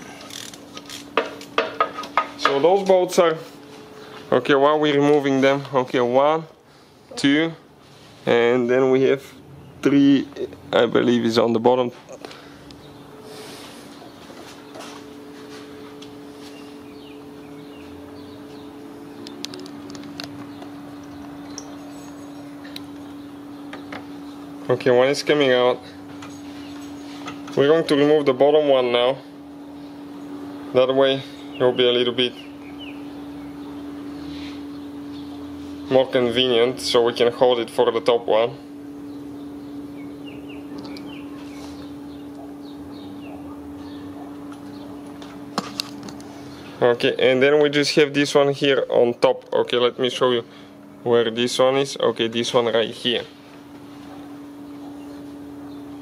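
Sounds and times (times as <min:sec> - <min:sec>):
steady hum: 0:00.0 - 0:56.0
small birds chirping: 0:09.1 - 0:45.5, 0:46.2 - 0:56.0.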